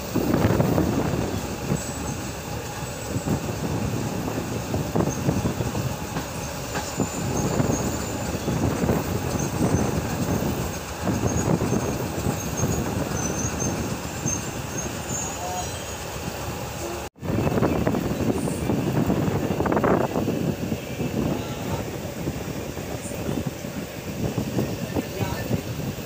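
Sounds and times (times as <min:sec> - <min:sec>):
high wheel squeals: 0:00.0 - 0:25.5
train wheels rumbling on rails: 0:00.0 - 0:26.0.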